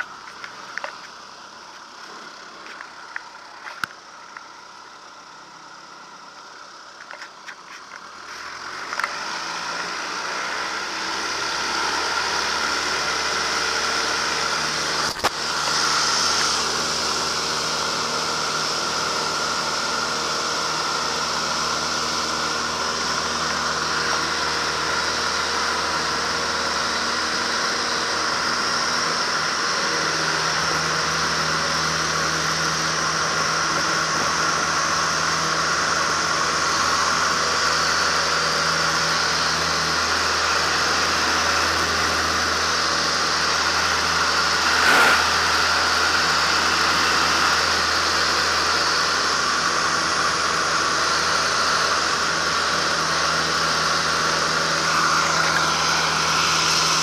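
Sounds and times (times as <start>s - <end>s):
plane engine and propeller drone: 0.0s - 57.0s.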